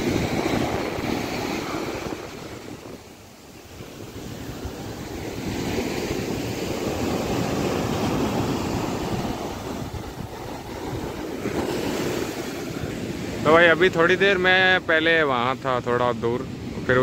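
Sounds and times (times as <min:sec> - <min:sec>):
wind on microphone: 0:00.0 - 0:14.8
surf washing up a beach: 0:00.0 - 0:17.0.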